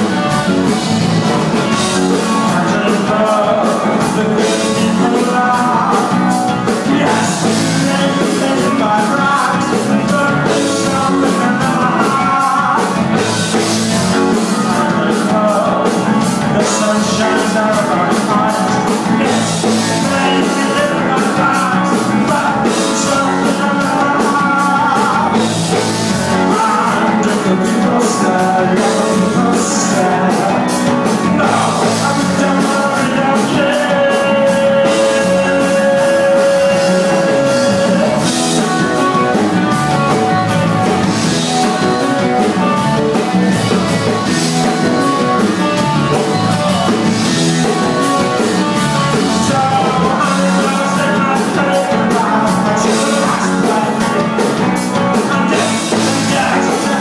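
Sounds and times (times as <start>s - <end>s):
live rock band playing: 0.0s - 57.0s
male singer: 0.0s - 57.0s.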